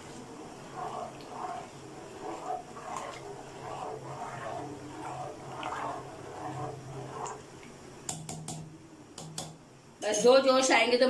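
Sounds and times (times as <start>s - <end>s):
spoon stirring rice in water: 0.0s - 9.6s.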